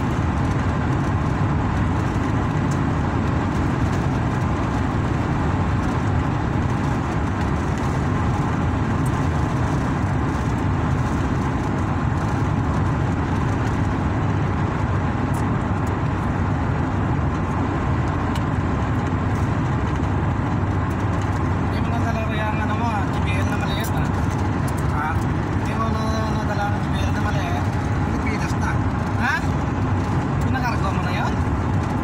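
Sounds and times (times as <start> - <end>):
car engine and tyre noise: 0.0 - 32.0.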